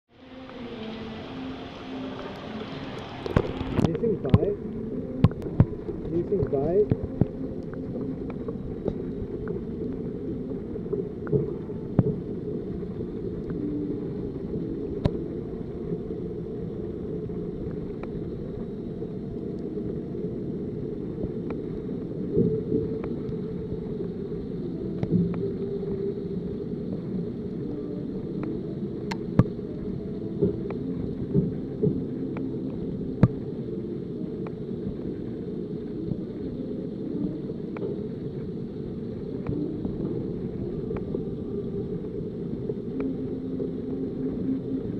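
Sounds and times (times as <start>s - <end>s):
muffled underwater rumble: 0.1s - 44.9s.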